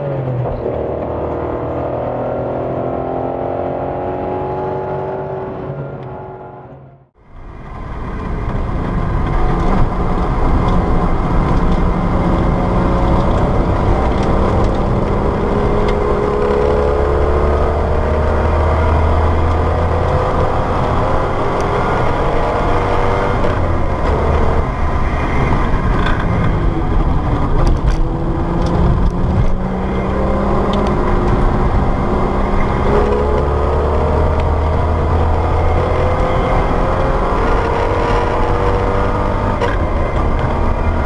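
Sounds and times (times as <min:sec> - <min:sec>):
car engine accelerating: 0:00.0 - 0:41.0
wind and road noise: 0:00.0 - 0:41.0.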